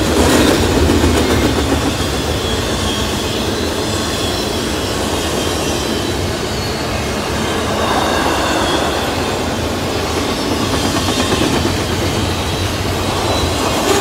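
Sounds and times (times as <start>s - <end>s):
freight train wheels rumbling: 0.0s - 14.0s
high-pitched wheel squeal: 2.3s - 14.0s.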